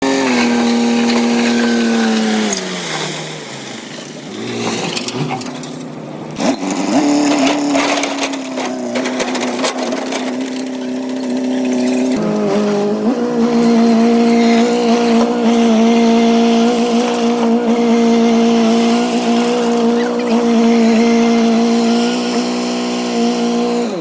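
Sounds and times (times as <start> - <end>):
bulldozer diesel engine lugging: 0.0 - 24.0.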